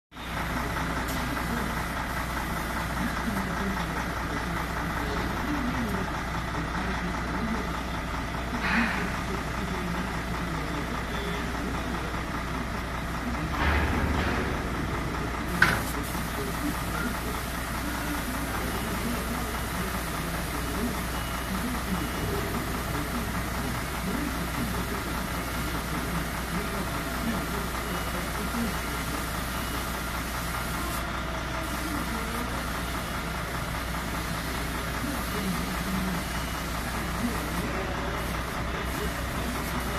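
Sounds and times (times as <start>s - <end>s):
diesel truck engine idling: 0.2s - 39.9s.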